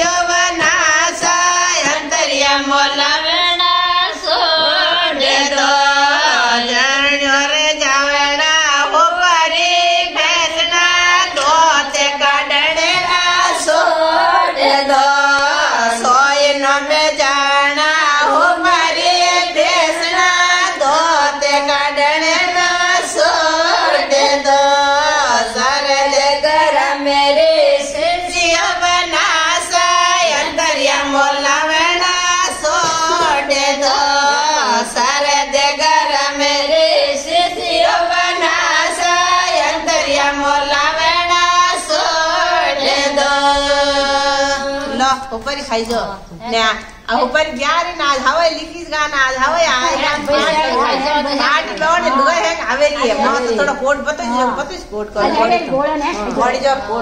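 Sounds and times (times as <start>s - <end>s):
women singing together: 0.0s - 57.0s.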